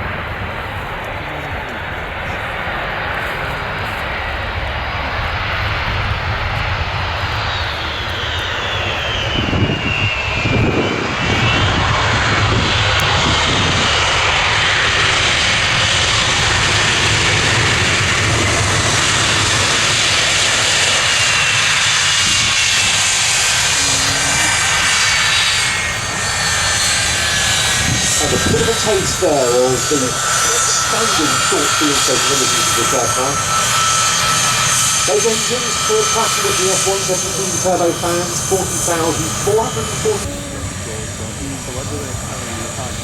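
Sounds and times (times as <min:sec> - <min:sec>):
jet engine roar: 0:00.0 - 0:43.0
jet engines whining on landing: 0:00.0 - 0:43.0.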